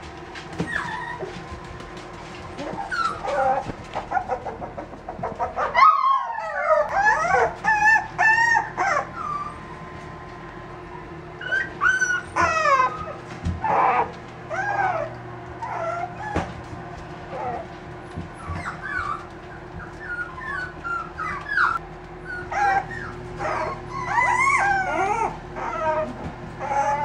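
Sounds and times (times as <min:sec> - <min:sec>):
puppies whining and yipping: 0:00.4 - 0:10.1, 0:11.4 - 0:27.0.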